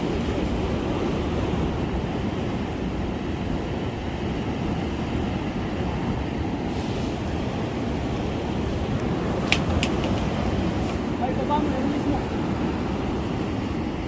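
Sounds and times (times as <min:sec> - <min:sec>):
wind and surf rumble: 0:00.0 - 0:14.0.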